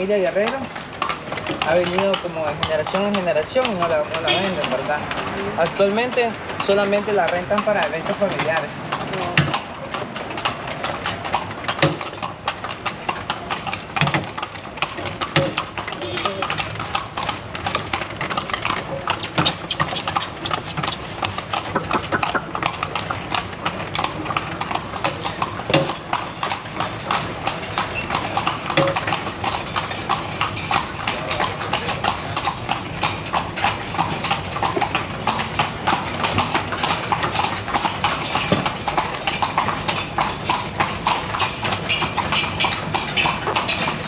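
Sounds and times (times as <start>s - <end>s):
carriage rolling: 0.0s - 44.0s
horse hooves clip-clopping: 0.0s - 44.0s.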